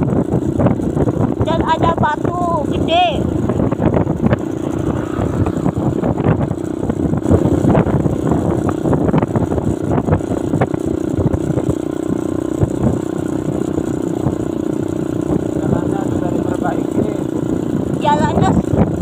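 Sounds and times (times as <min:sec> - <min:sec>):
motorcycle engine running: 0:00.0 - 0:19.0
wind rumble: 0:00.0 - 0:19.0.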